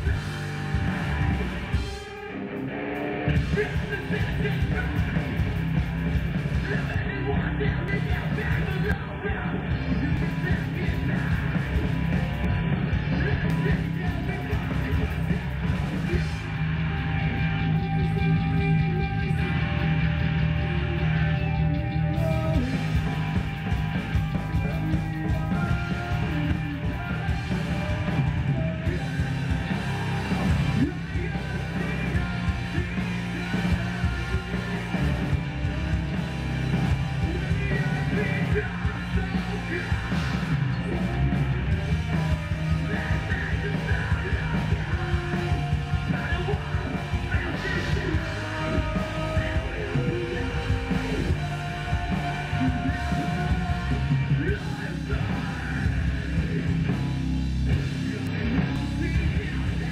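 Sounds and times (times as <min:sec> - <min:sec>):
rock music: 0:00.0 - 0:59.9
shouted vocals: 0:03.2 - 0:05.7, 0:06.4 - 0:56.9.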